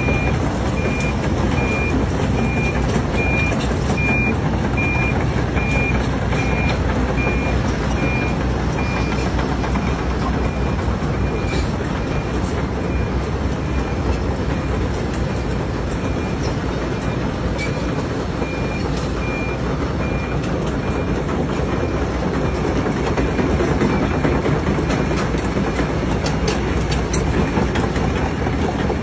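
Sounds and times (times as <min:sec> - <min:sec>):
reversing alarm beeping: 0:00.0 - 0:27.9
heavy machinery diesel rumble: 0:00.0 - 0:29.0.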